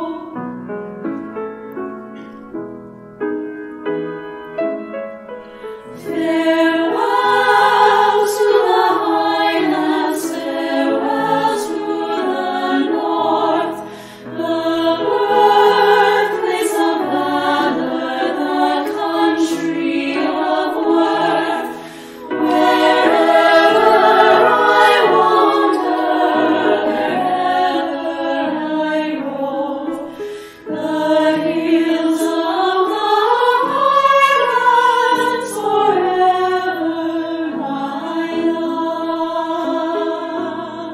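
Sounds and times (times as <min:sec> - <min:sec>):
choir singing: 0:00.0 - 0:00.4, 0:05.8 - 0:40.9.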